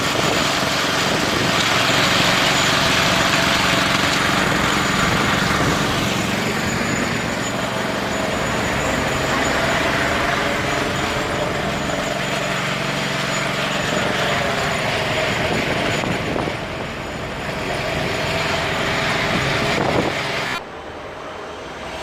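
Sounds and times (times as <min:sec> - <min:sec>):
motor engine running: 0:00.0 - 0:20.6
outdoor noise: 0:00.0 - 0:22.0.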